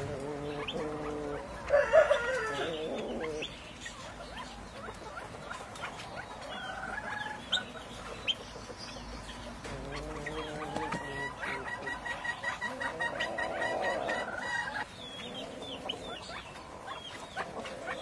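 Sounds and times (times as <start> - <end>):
fowl clucking and calling: 0.0 - 18.0.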